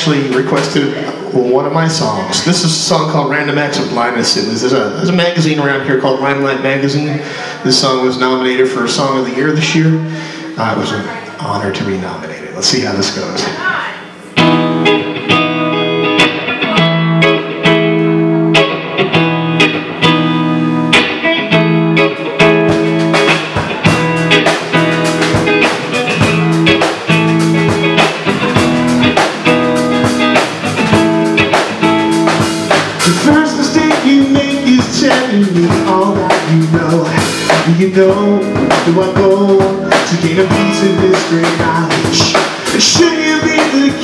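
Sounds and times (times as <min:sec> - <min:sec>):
drum kit: 0:00.0 - 0:10.9, 0:12.6 - 0:44.0
electric guitar: 0:00.0 - 0:11.4, 0:13.0 - 0:44.0
electric bass: 0:00.0 - 0:44.0.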